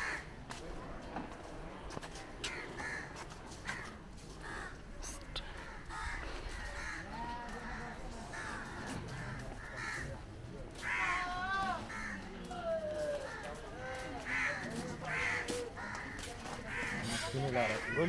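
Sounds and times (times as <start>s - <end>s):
faint background voices: 0.0s - 18.0s.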